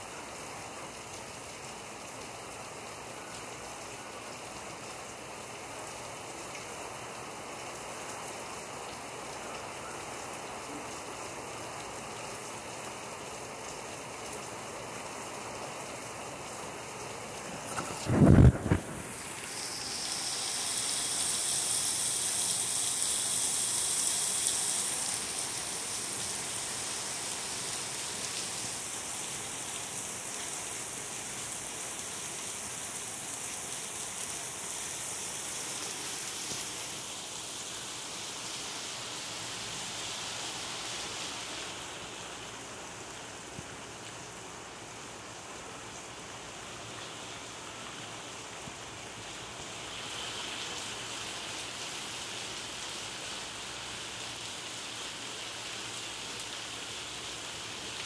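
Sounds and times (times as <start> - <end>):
heavy rain on pavement and cars: 0.0 - 58.0.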